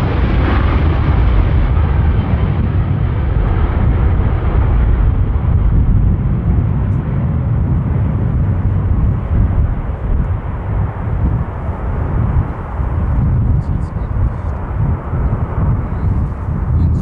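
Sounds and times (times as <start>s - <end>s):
jet airliner engines rumbling: 0.0s - 17.0s.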